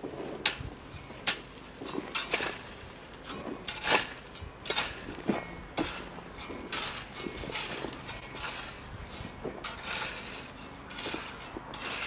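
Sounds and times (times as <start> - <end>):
metal rake scraping gravel: 0.0 - 12.0.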